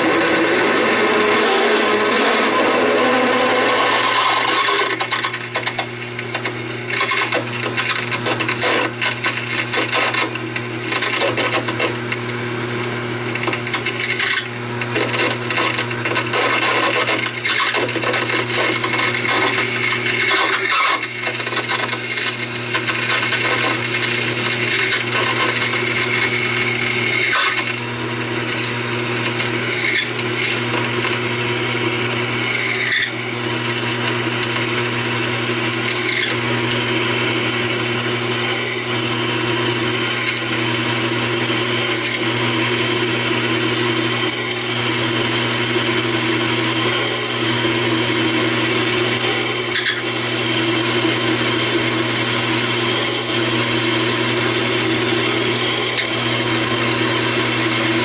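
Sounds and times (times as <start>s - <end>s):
drill cutting hiss: 0.0s - 58.0s
lathe motor hum: 0.0s - 58.0s.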